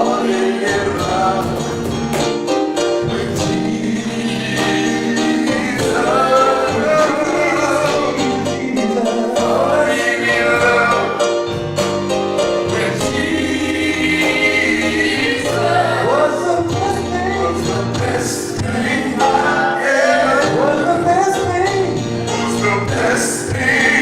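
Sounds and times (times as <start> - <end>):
gospel choir singing: 0.0 - 24.0
instrumental accompaniment: 0.0 - 24.0.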